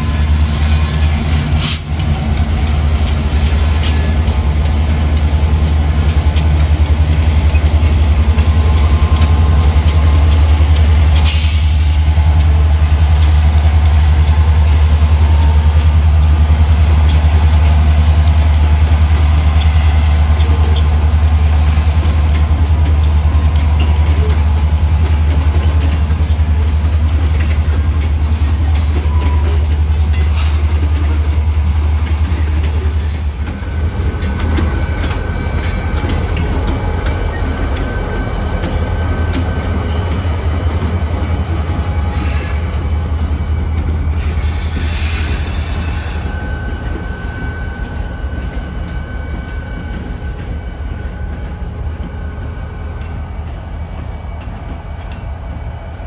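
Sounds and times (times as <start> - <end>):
freight train rumbling past: 0.0 - 56.0
train wheels clicking: 0.0 - 56.0.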